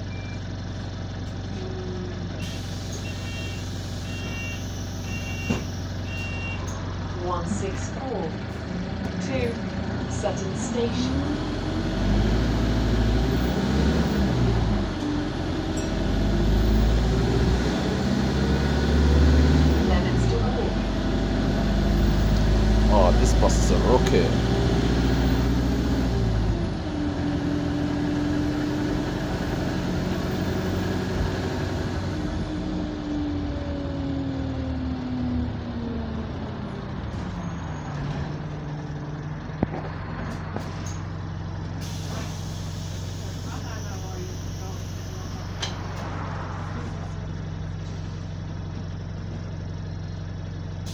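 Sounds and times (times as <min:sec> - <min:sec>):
bus engine drone: 0:00.0 - 0:50.9
road rumble: 0:00.0 - 0:50.9.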